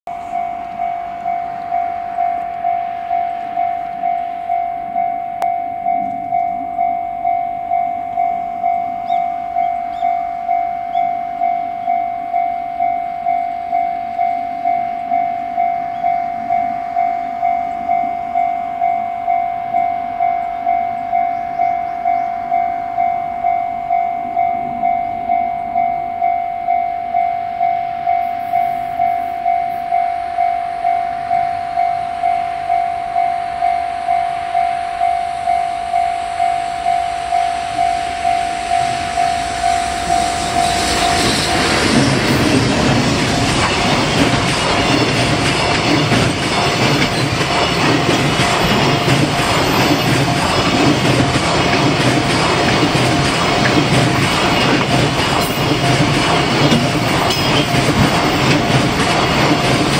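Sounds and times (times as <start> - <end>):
level crossing warning bell: 0.1 - 59.9.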